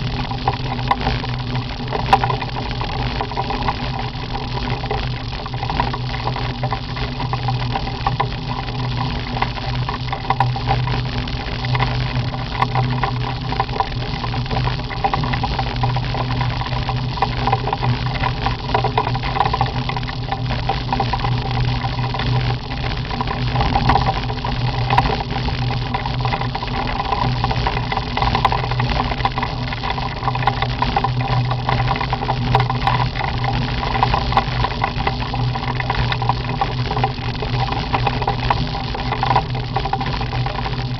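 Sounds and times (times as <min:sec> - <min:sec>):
gravel clicking under tyres: 0:00.0 - 0:40.9.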